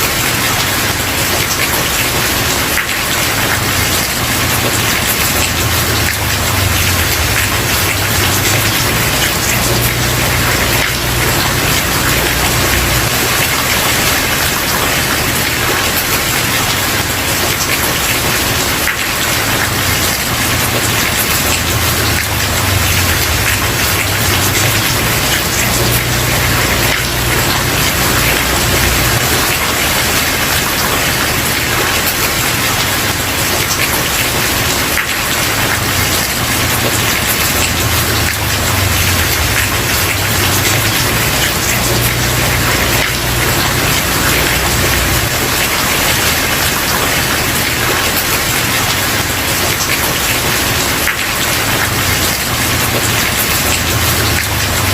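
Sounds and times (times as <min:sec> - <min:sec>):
heavy rain on wooden porch: 0:00.0 - 0:54.9.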